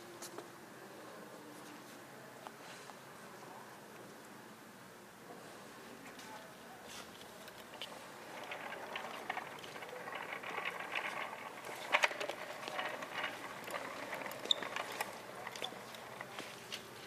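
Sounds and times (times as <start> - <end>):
large hall ambience: 0.0 - 17.0.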